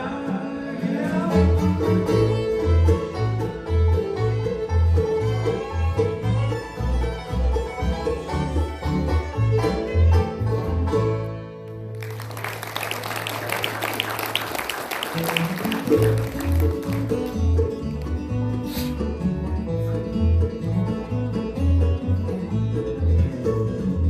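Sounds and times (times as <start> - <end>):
banjo picking: 0.0 - 12.3, 14.4 - 24.0
guitar picking: 0.0 - 12.3, 14.6 - 24.0
bass notes: 0.0 - 12.4, 15.1 - 24.0.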